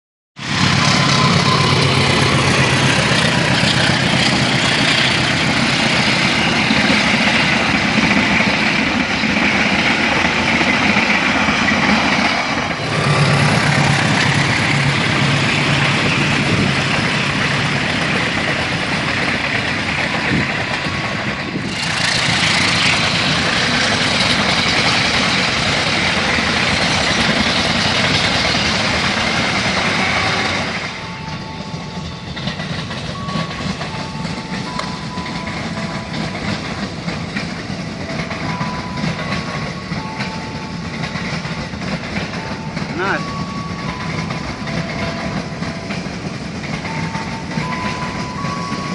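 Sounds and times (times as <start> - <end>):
train rushing noise: 0.4 - 48.9.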